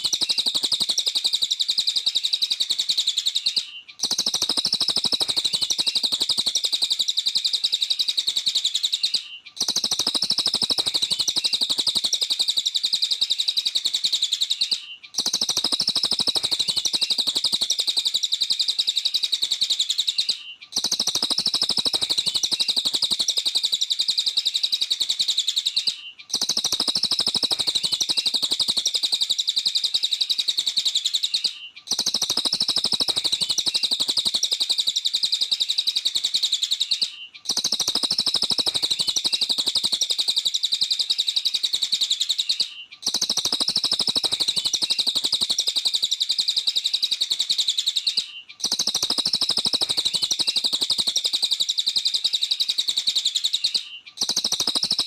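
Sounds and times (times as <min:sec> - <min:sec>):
bird chattering twitter: 0:00.0 - 0:55.0.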